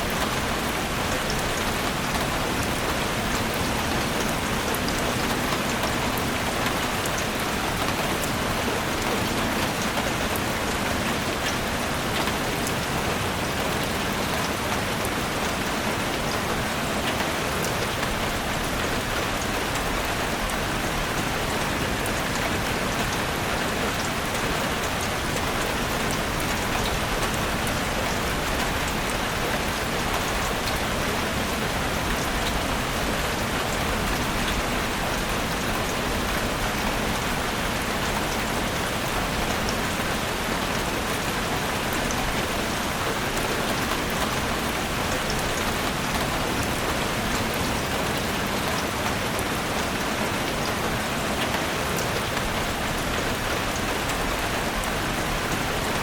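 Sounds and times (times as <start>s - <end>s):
rain falling in forest: 0.0s - 56.0s.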